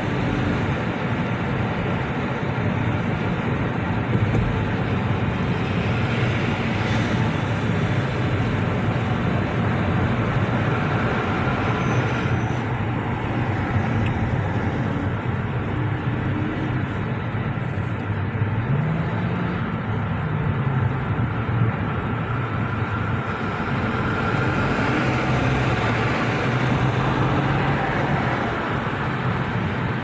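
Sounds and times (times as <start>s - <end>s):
urban traffic: 0.0s - 30.0s.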